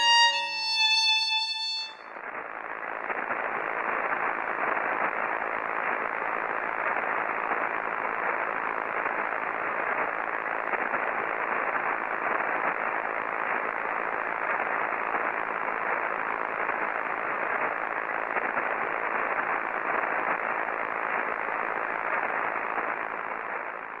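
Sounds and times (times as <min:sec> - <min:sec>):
television static hiss: 0:00.0 - 0:24.0.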